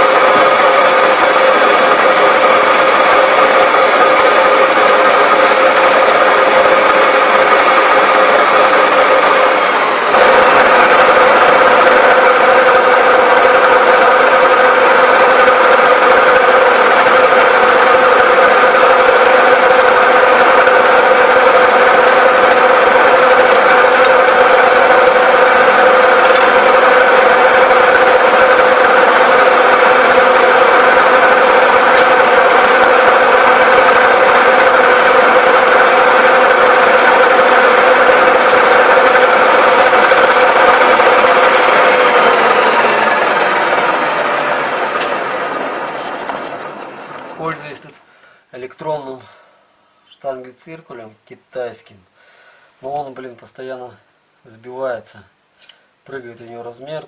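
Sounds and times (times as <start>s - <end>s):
lathe running with gear whine: 0.0s - 48.9s.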